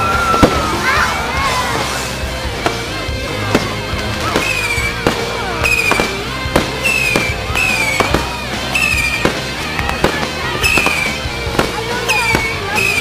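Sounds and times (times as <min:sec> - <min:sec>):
fireworks banging and cracking: 0:00.0 - 0:13.0.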